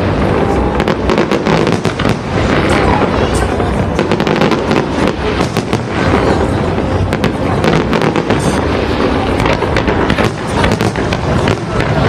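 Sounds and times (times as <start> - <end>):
fireworks cracks and bangs: 0.0 - 12.0
low rumble: 0.0 - 12.0.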